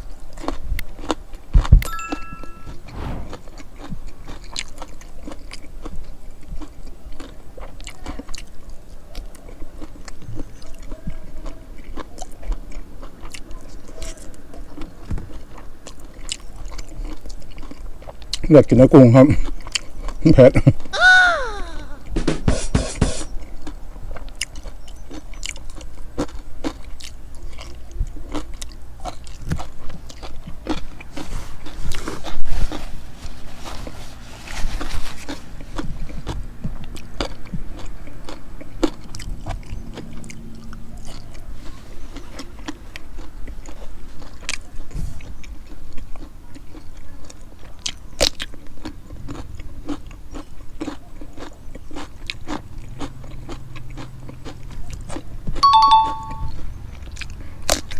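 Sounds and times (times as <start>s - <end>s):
person chewing crunchy food: 0.0s - 18.4s, 19.3s - 20.2s, 23.6s - 56.2s, 56.9s - 57.9s.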